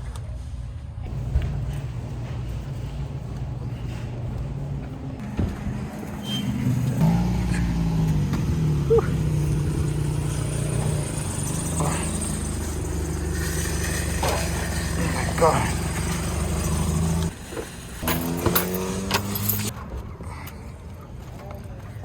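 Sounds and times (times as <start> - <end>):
road noise: 1.0 - 21.1
car engine accelerating: 1.1 - 17.4, 18.0 - 19.7.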